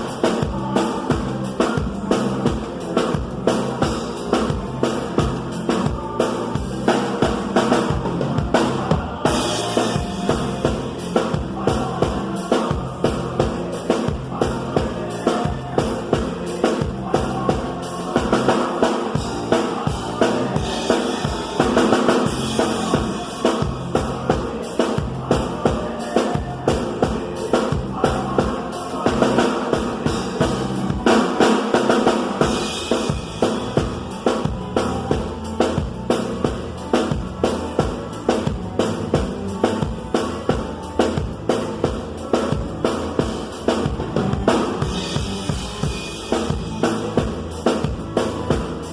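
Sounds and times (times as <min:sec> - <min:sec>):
drum kit steady beat: 0:00.0 - 0:48.9
live band music: 0:00.0 - 0:48.9.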